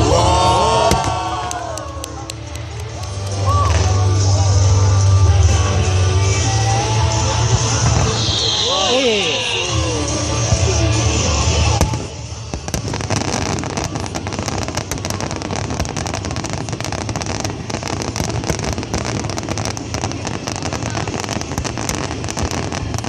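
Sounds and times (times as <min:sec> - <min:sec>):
music: 0:00.0 - 0:23.0
fireworks crackling pops: 0:00.7 - 0:23.0.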